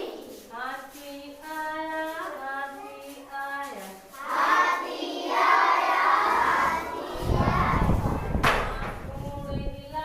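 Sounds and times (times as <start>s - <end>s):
child singing held notes: 0.0s - 8.4s.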